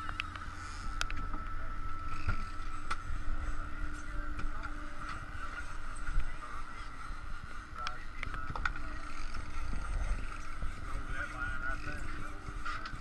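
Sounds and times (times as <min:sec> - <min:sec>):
boat engine running: 0:00.0 - 0:13.0
wind rumbling on microphone: 0:02.0 - 0:13.0.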